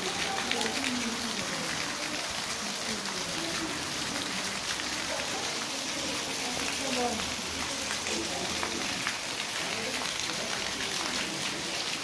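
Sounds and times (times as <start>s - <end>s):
heavy rain on hard surfaces: 0.0s - 12.0s.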